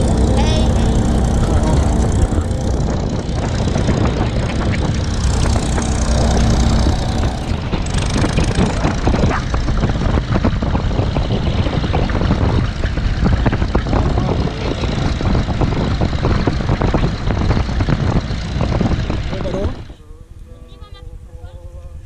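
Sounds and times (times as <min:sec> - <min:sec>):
trailer rattling: 0:00.0 - 0:20.0
tractor engine running: 0:00.0 - 0:21.2.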